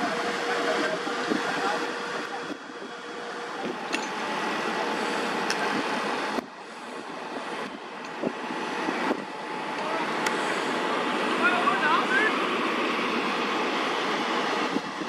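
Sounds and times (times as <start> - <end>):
fire truck pump engine running: 0.0 - 15.0.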